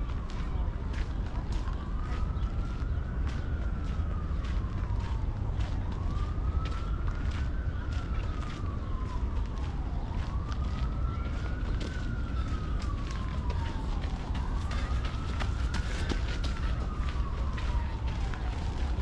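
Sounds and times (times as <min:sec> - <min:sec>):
distant siren wailing: 0:00.0 - 0:19.0.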